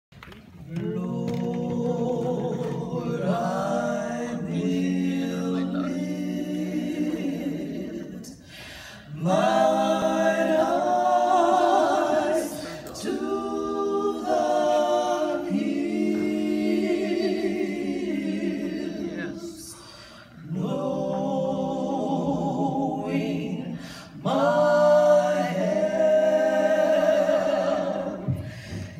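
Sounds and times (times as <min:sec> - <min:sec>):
women singing in close harmony: 0:00.7 - 0:08.5, 0:09.1 - 0:28.9.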